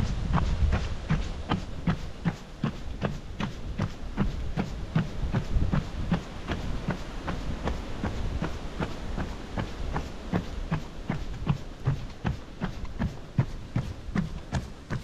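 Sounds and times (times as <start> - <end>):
running footsteps on wooden boardwalk: 0.0 - 15.0.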